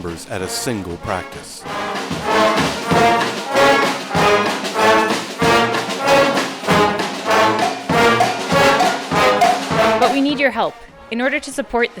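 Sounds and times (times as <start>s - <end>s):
brass band playing: 0.0s - 10.7s.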